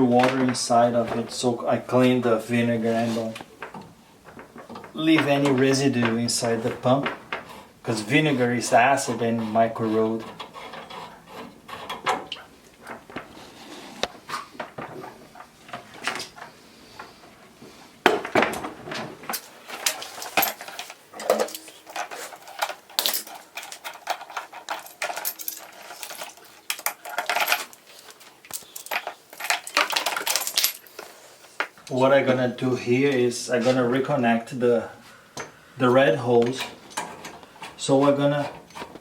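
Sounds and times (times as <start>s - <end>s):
hard parts clinking and knocking: 0.0s - 17.4s, 18.0s - 31.9s, 36.3s - 39.0s.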